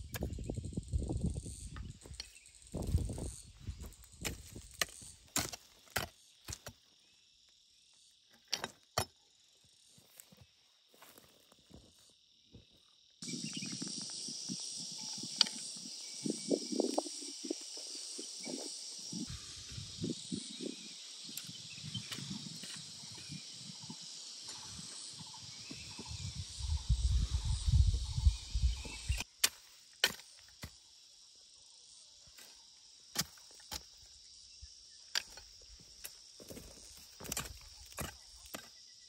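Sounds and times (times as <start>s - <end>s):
crickets droning: 0.0s - 39.0s.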